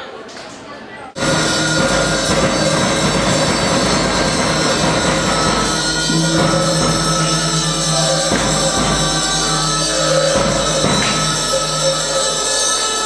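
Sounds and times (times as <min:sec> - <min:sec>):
large cymbals ringing: 0:01.2 - 0:13.0
steady low drone: 0:01.2 - 0:13.0.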